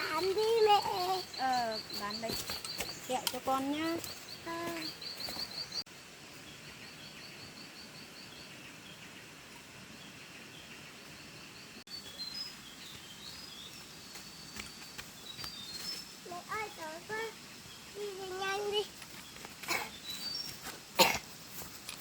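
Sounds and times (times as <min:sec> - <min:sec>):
small birds chirping: 0:00.0 - 0:22.0
steady forest hiss: 0:00.0 - 0:22.0.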